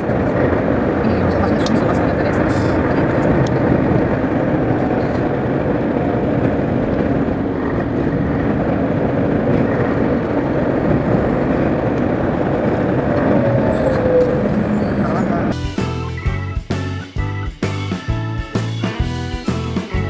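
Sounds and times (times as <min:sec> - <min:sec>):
lorry diesel engine: 0:00.0 - 0:20.0.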